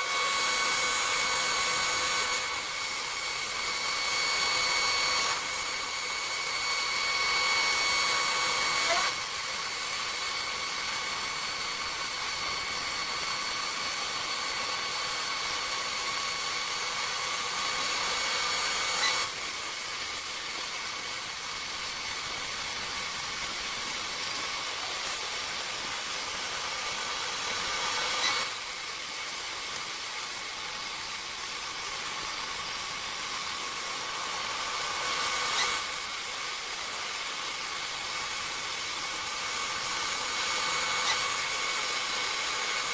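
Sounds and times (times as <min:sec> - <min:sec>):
milling machine spindle whine: 0:00.0 - 0:42.9.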